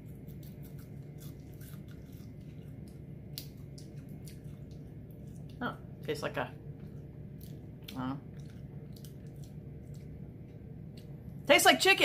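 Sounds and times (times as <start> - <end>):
person chewing crunchy food: 0.0 - 6.0, 6.6 - 11.4
steady low hum: 0.0 - 12.0.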